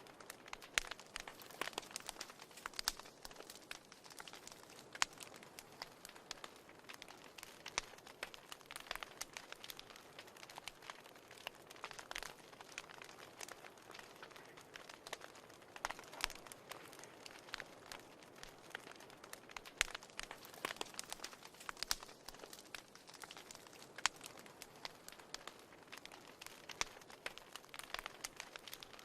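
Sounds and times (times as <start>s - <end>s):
soft hiss of flames: 0.0s - 29.0s
wood fire crackling and popping: 0.0s - 29.0s.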